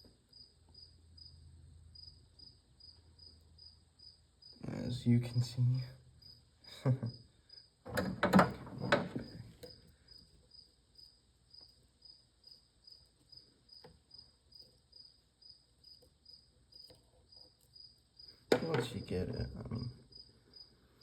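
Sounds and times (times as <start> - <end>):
cricket chirping: 0.0 - 7.8, 8.8 - 21.0.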